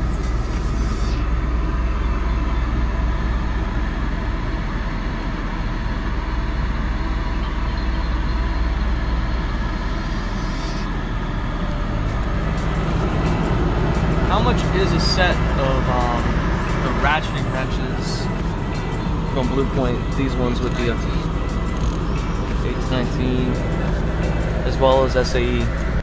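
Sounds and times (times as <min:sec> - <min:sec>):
machinery rumble and hum: 0:00.0 - 0:26.0.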